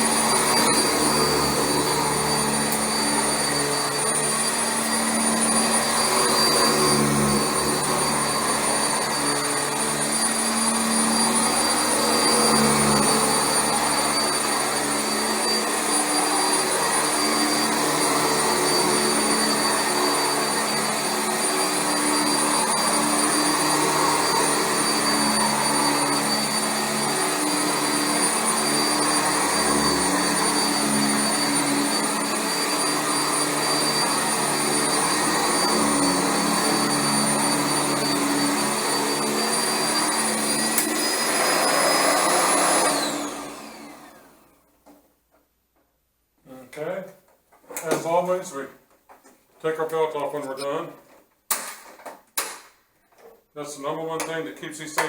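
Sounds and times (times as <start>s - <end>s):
upright vacuum running on carpet: 0.0s - 44.6s.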